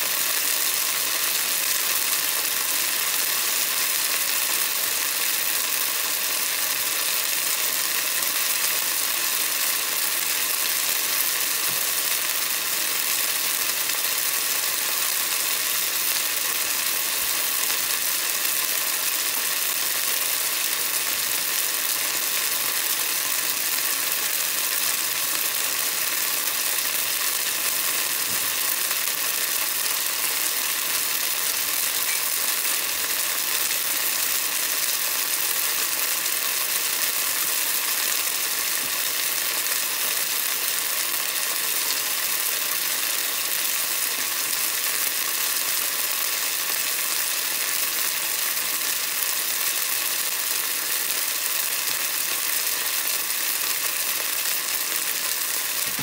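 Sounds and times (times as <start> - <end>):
vegetables deep-frying in oil: 0.0 - 56.0.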